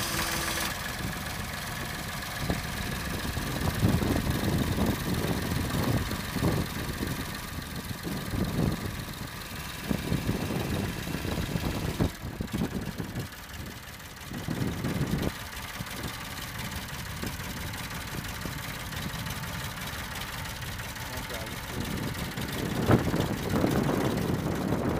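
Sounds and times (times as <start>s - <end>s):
tractor diesel engine idling: 0.0s - 24.9s.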